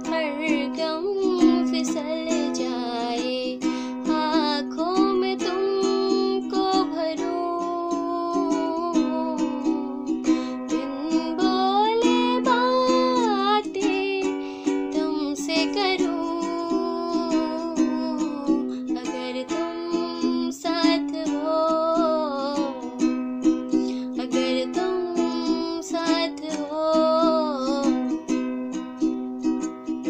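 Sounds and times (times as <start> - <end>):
woman singing: 0.0 - 28.4
ukulele strumming chords: 0.0 - 30.0.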